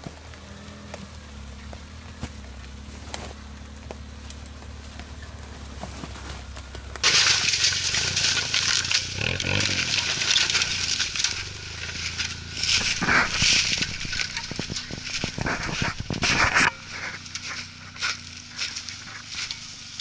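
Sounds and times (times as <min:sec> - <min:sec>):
low engine hum: 0:00.0 - 0:20.0
tyres crunching over snow: 0:00.0 - 0:20.0.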